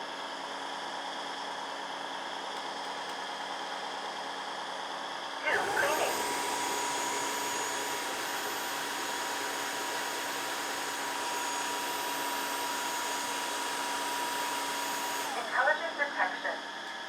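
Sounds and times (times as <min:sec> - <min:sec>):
motor whir with high whine: 0:00.1 - 0:17.0.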